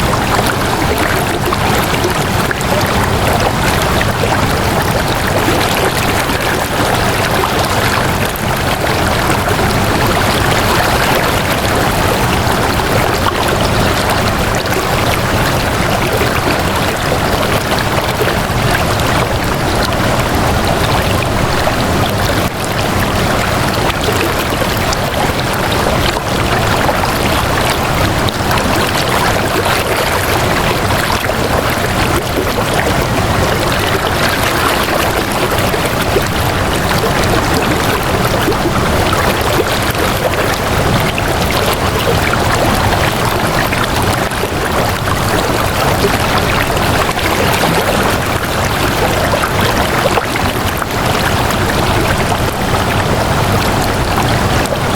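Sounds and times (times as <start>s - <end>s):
water rushing and splashing: 0.0s - 54.9s.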